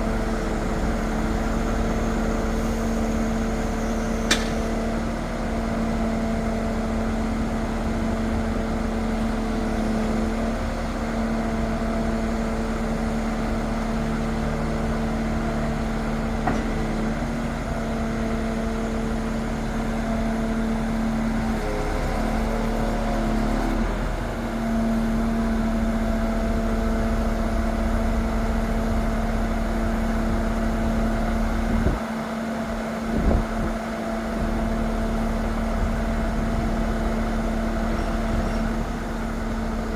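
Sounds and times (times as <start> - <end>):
diesel engine droning hum: 0.0 - 39.9.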